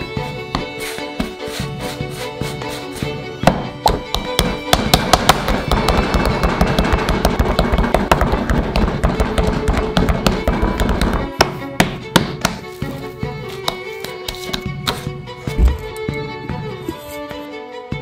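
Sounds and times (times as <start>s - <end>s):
dough kneaded on wooden board: 0.0s - 15.1s
violin music: 0.0s - 18.0s.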